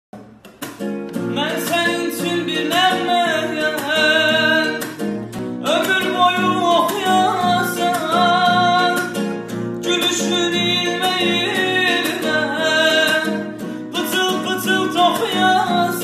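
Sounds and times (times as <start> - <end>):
acoustic guitar strumming: 0.2 - 16.0
man singing: 1.2 - 16.0.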